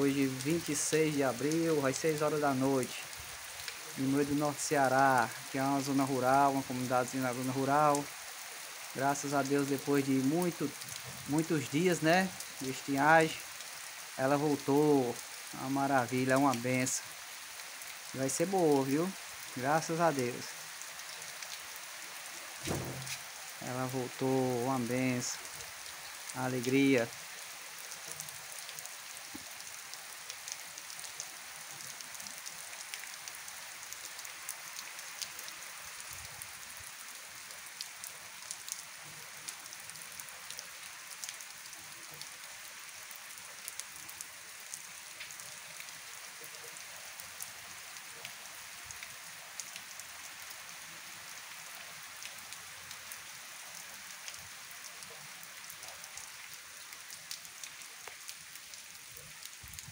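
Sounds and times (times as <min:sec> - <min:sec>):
rain falling on ground: 0:00.0 - 0:59.9.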